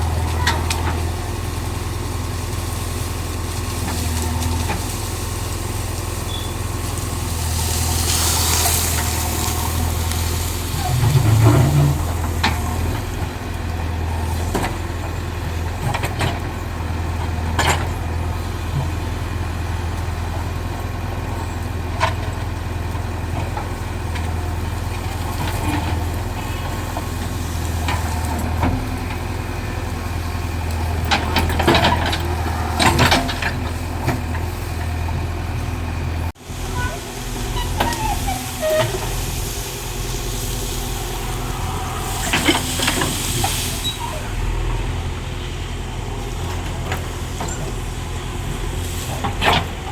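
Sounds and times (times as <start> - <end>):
diesel machinery engine running: 0.0 - 49.9.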